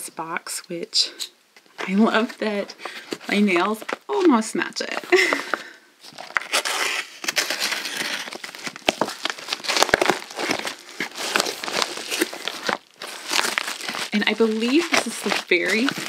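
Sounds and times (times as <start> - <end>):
metallic mailer crinkling and crackling: 1.8 - 16.0.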